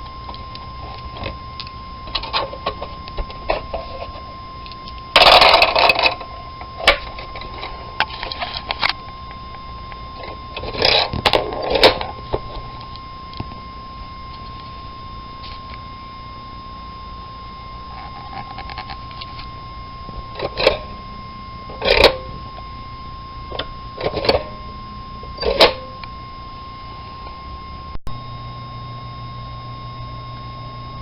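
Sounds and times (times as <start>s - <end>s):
steady high tone: 0.0s - 31.0s.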